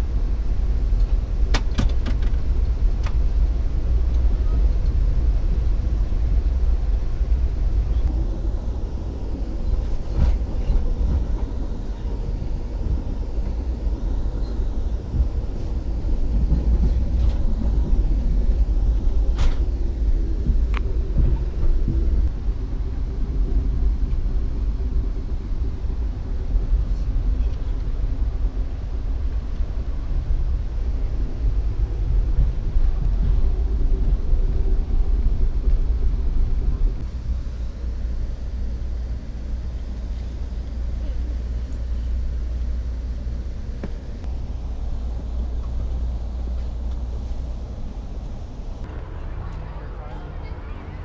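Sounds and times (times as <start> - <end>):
train car rumbling on track: 0.0 - 51.0.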